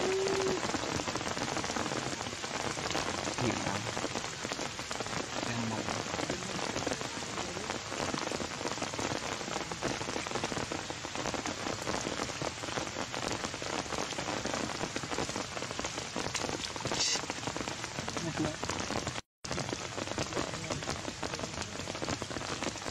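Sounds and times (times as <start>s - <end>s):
heavy rain falling: 0.0s - 22.9s.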